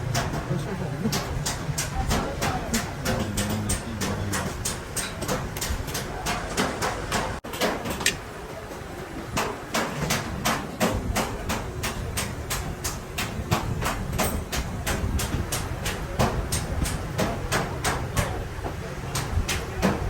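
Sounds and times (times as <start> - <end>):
rapid metallic knocking: 0.0 - 8.2, 9.3 - 20.0.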